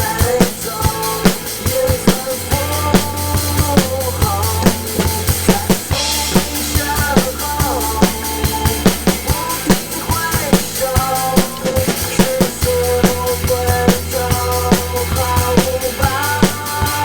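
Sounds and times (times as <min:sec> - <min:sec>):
drum kick and snare beat: 0:00.0 - 0:17.0
pop song backing track: 0:00.0 - 0:17.0.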